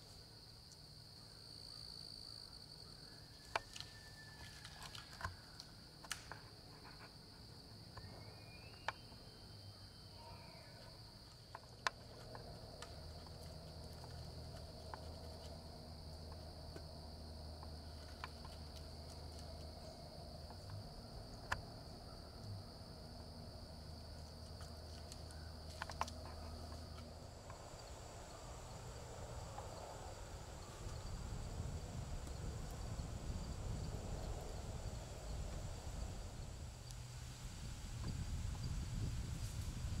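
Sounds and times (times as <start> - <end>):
crickets chirring: 0.0 - 40.0.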